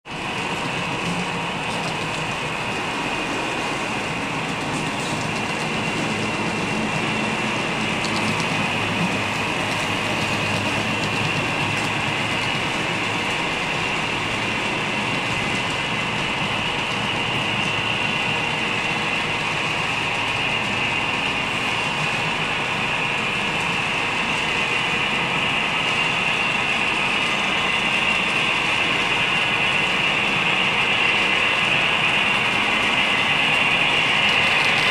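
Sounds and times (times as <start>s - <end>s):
model train wheels whirring on rail: 0.0s - 34.9s.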